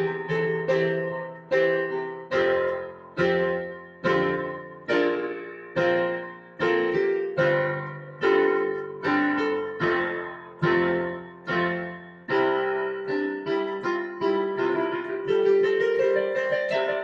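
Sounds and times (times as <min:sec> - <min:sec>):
digital piano playing: 0:00.0 - 0:17.0.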